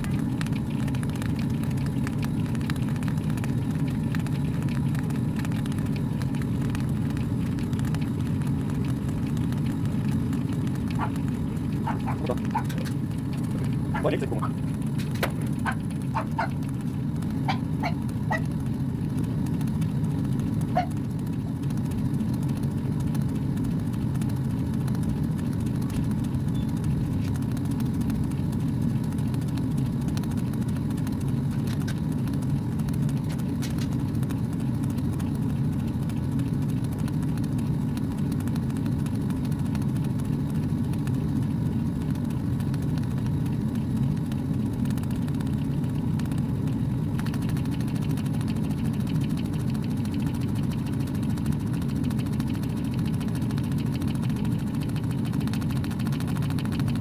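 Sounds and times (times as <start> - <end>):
laser engraver humming: 0.0 - 57.0.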